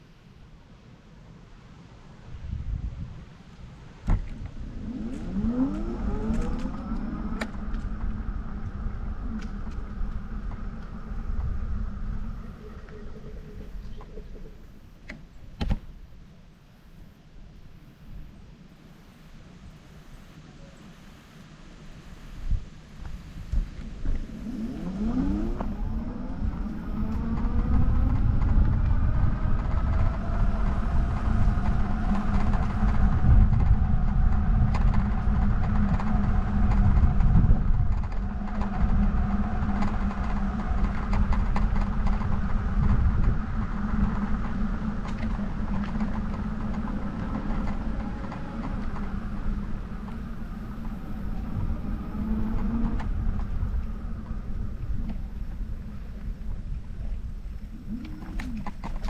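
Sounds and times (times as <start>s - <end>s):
wind rumble on microphone: 0.0s - 59.0s
vehicle motor whine: 4.0s - 16.0s, 22.0s - 59.0s.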